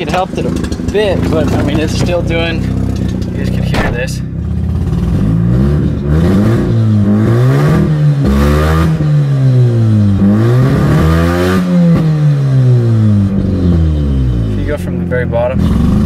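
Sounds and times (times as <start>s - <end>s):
rotary engine revving and sputtering: 0.0s - 16.0s.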